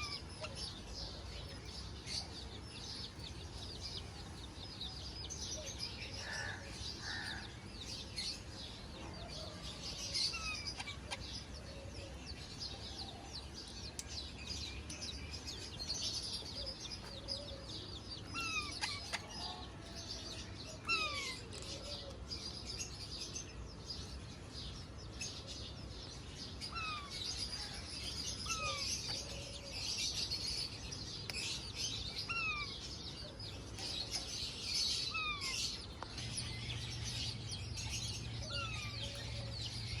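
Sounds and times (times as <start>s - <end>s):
birds chirping and twittering: 0.0s - 40.0s.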